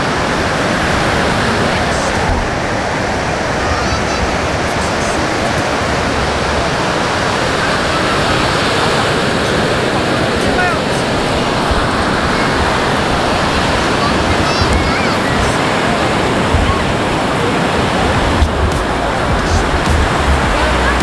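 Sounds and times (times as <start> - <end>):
ocean surf on beach: 0.0 - 21.0.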